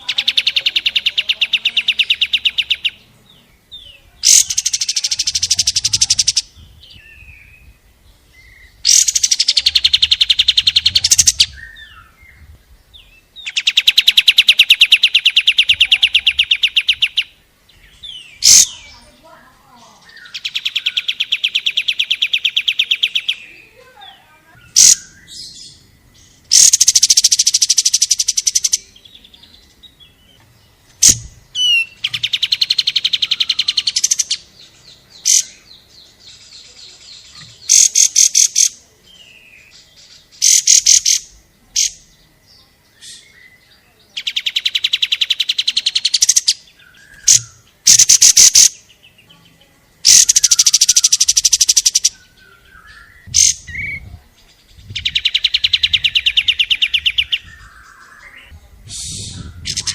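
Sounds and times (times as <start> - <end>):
bird chirps: 0.0 - 59.9
songbird rapid trills: 0.0 - 59.9.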